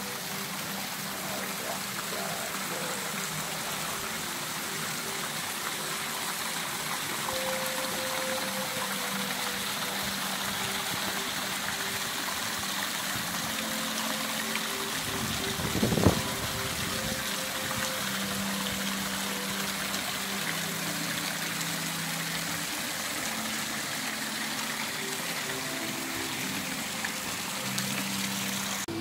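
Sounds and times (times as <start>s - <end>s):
water rushing over small waterfalls: 0.0s - 29.0s.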